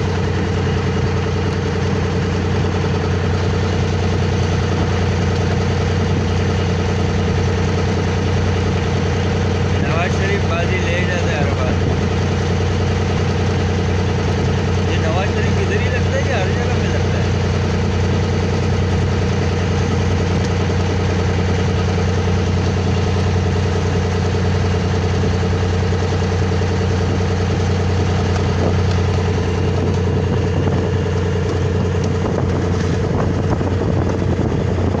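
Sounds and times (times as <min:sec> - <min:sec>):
boat engine running: 0:00.0 - 0:35.0.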